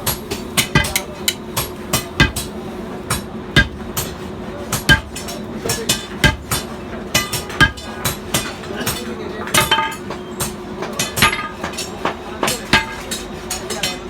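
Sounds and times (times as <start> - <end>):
hammer striking steel on anvil: 0.0 - 13.9.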